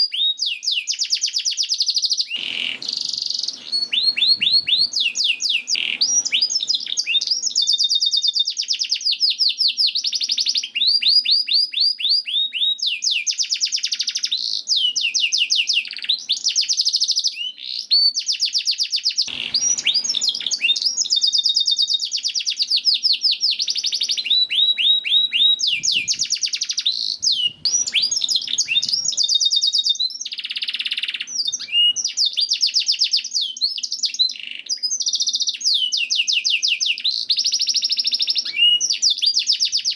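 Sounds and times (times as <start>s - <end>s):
canary singing rapid trills: 0.2s - 11.2s, 12.2s - 39.9s.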